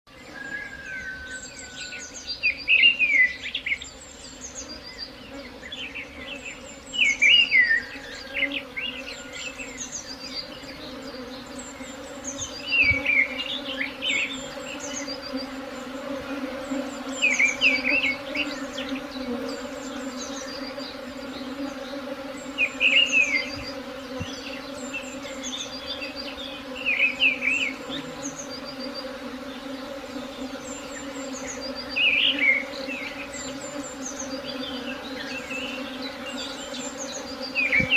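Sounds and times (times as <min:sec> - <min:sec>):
bird singing: 0:00.1 - 0:37.9
honeybee swarm buzzing: 0:02.0 - 0:37.9.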